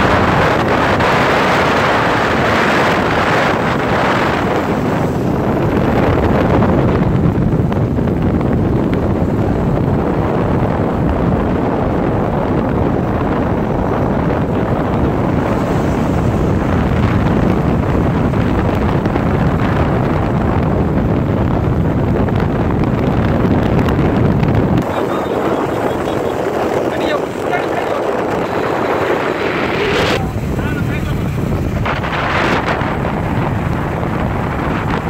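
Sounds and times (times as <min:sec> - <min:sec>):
motorcycle engine and tyre noise: 0:00.0 - 0:35.0
wind buffeting microphone: 0:00.0 - 0:35.0.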